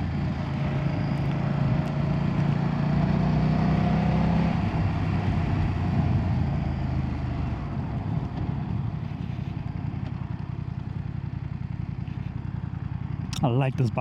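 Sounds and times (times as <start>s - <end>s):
motorcycle engine throbbing rumble: 0.0s - 14.0s.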